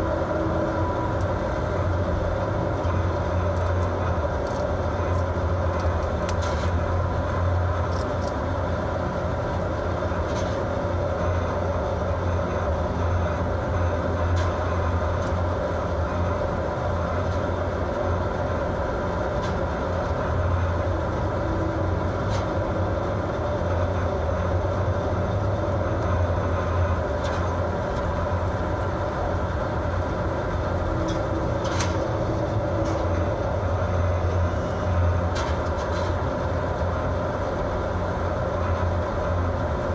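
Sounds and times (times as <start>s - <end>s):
boat engine droning: 0.0s - 39.9s
wind: 0.0s - 39.9s.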